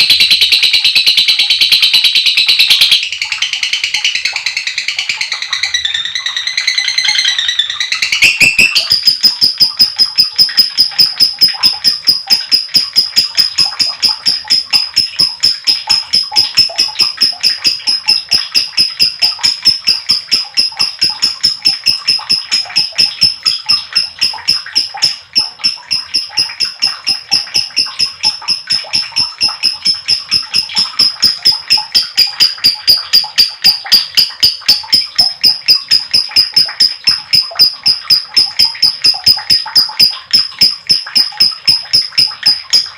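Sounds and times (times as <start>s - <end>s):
lovebird shrill rattling chatter: 0.0s - 42.9s.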